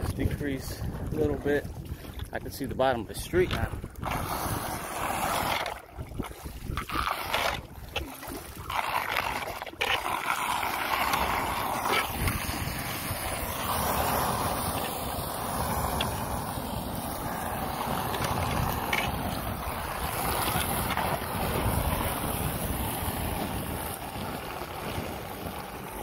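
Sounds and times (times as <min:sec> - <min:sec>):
wind buffeting microphone: 0:00.0 - 0:26.0
water rushing down a drain: 0:03.9 - 0:26.0.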